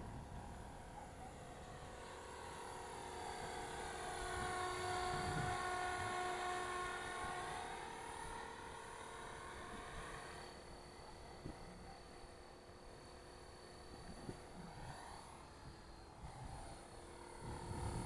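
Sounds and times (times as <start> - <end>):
model helicopter motor whine: 0.0 - 18.0.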